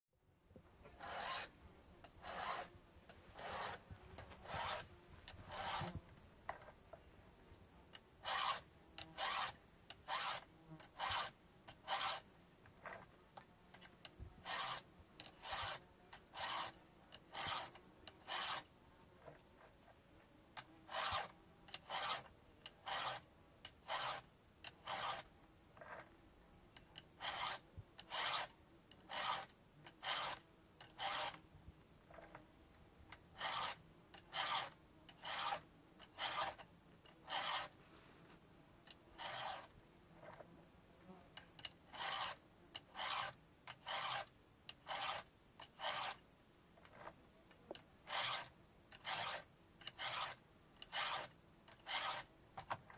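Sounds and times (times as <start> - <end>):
file rasping on chainsaw chain: 0.8 - 6.8, 7.9 - 13.1, 13.7 - 19.4, 20.6 - 26.1, 26.8 - 31.5, 33.1 - 37.8, 38.8 - 40.4, 41.4 - 46.2, 46.9 - 52.3.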